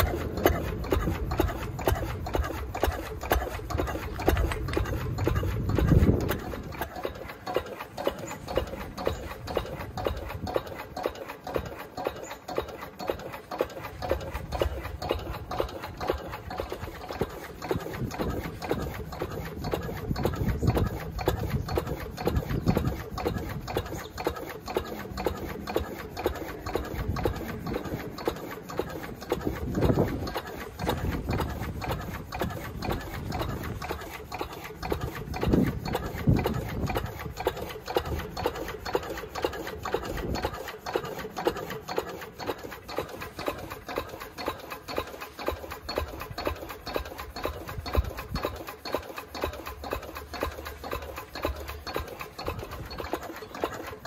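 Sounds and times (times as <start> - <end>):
diesel engine beating slowly: 0.0 - 54.0.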